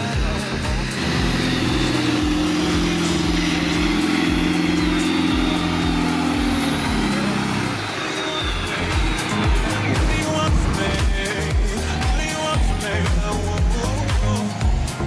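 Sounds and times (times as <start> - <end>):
engine revving high: 0.0 - 15.0.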